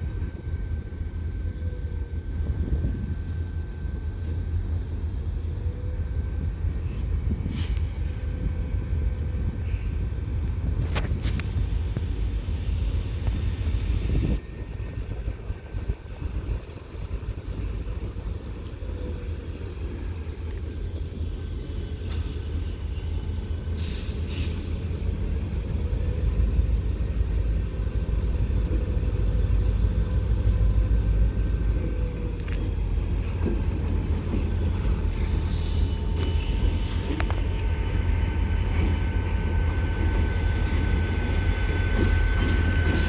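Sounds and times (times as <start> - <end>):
diesel locomotives rumbling: 0.0 - 43.0.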